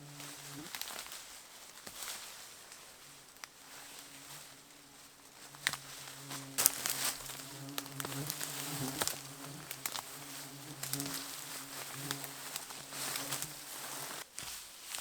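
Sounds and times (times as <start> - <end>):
flies buzzing: 0.0 - 1.1, 2.6 - 14.2
sharp rustles and snaps: 0.2 - 4.5, 5.4 - 15.0.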